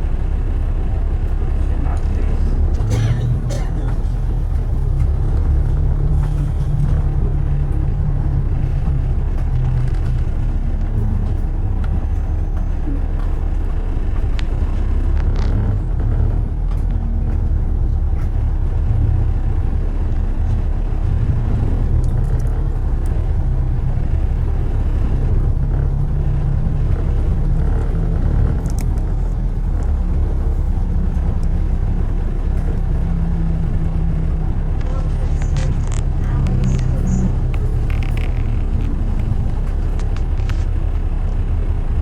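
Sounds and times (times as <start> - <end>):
city road traffic rumble: 0.0 - 42.0
faint clicks and knocks: 1.2 - 42.0.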